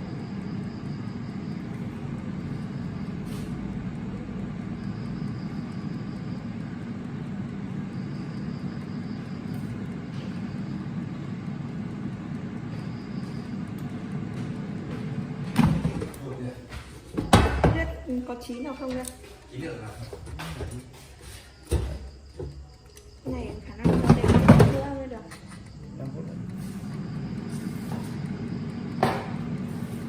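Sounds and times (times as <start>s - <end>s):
air fryer fan humming: 0.0s - 30.0s.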